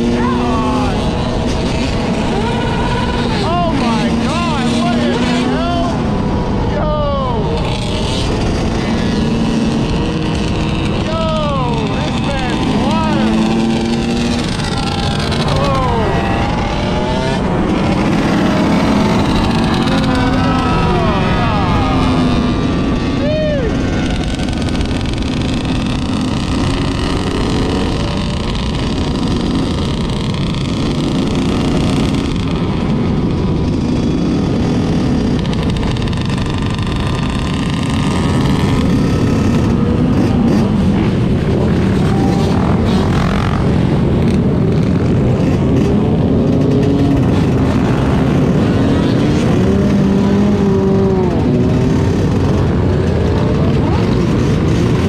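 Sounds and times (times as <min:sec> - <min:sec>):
motorbike engines revving: 0:00.0 - 0:55.0.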